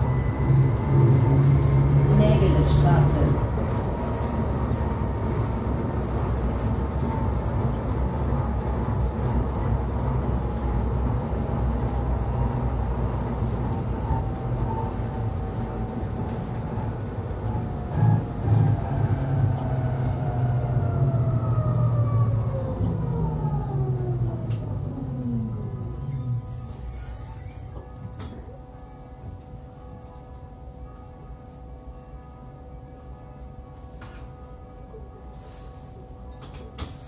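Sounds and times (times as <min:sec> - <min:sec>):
railcar rumble and whine: 0:00.0 - 0:37.0.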